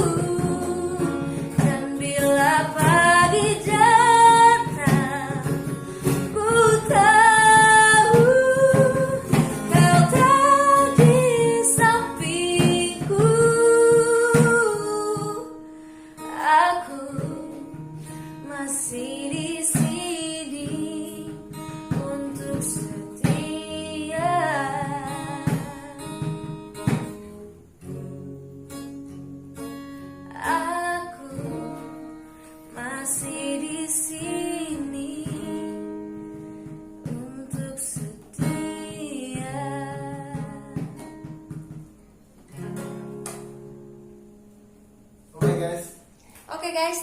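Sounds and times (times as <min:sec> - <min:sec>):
woman singing: 0:00.0 - 0:15.6, 0:16.2 - 0:27.1, 0:30.3 - 0:41.7
acoustic guitar: 0:00.0 - 0:47.0.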